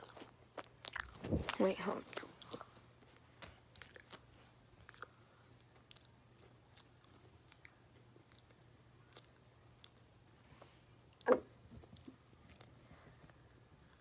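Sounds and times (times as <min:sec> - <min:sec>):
low steady hum: 0:00.0 - 0:14.0
person chewing food: 0:00.0 - 0:14.0.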